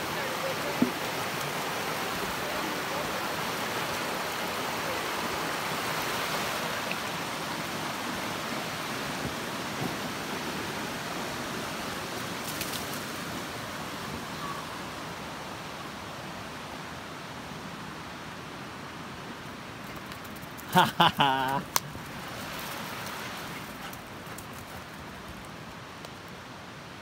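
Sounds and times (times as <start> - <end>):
creek rushing over rocks: 0.0 - 27.0.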